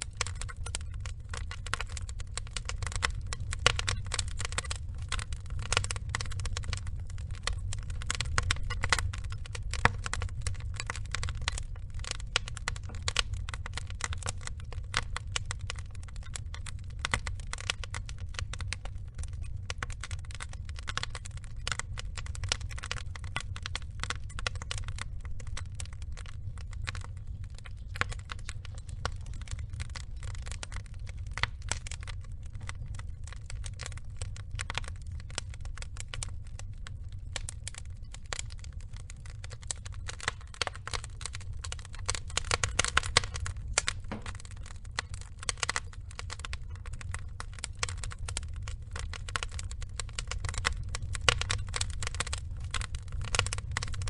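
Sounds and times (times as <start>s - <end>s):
burning logs crackling and popping: 0.0s - 54.0s
low rumble of flames: 0.0s - 54.0s.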